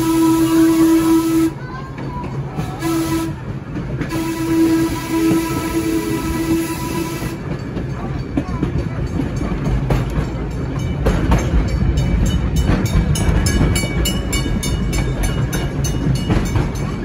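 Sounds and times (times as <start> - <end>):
streetcar wheels rumbling: 0.0 - 17.0.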